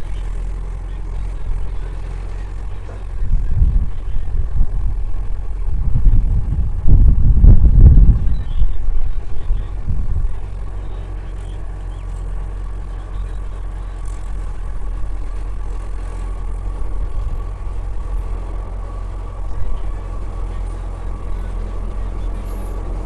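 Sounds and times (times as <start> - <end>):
train rumbling with whine: 0.0 - 23.0.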